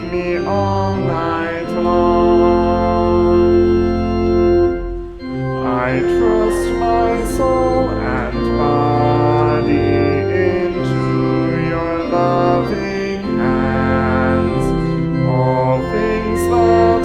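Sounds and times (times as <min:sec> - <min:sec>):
church organ playing a hymn: 0:00.0 - 0:17.0.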